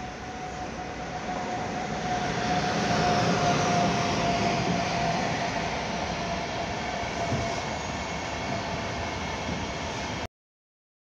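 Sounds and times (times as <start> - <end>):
locomotive whine: 0.0 - 10.3
train rail rumble: 0.0 - 10.3.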